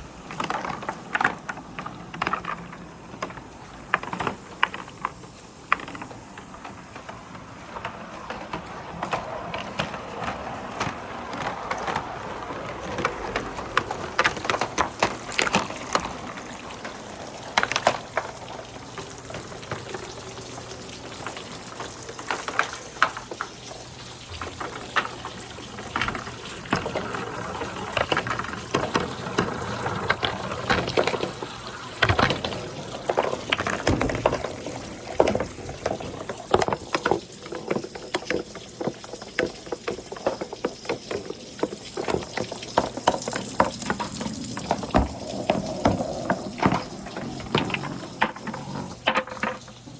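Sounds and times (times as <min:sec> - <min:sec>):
balls clacking against gutters: 0:00.0 - 0:49.9
running water splashing: 0:00.0 - 0:49.9.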